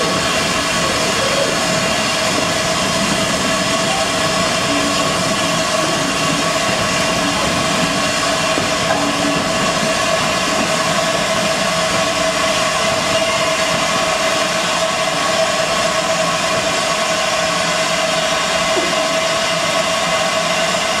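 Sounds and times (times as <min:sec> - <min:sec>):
train coaches rolling past: 0:00.0 - 0:21.0.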